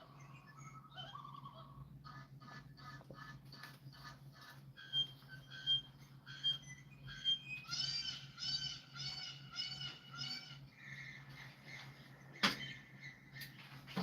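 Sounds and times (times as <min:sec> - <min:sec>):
bird calls: 0:00.0 - 0:14.0
steady low hum: 0:00.0 - 0:14.0.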